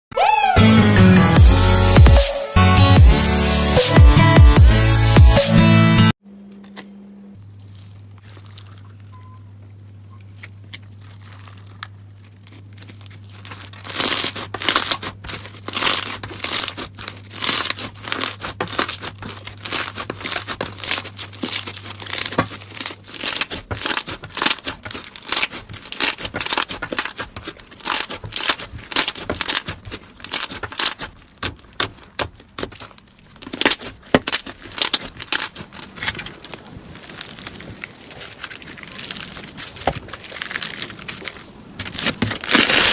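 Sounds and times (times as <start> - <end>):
slime crackling and popping: 7.5 - 42.9.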